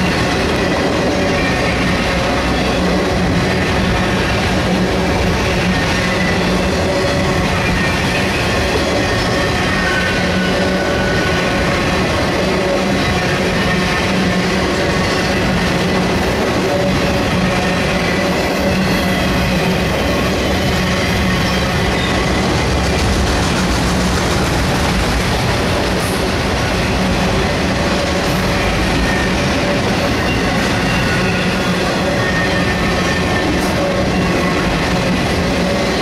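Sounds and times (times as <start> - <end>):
freight train wheels rumbling: 0.0 - 36.0.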